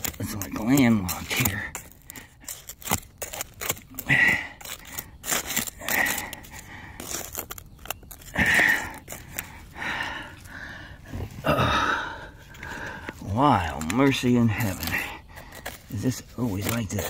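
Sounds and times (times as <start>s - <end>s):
digging tool scraping dirt: 0.0s - 11.4s, 12.3s - 17.0s
effortful breaths: 1.5s - 2.9s, 3.8s - 16.4s.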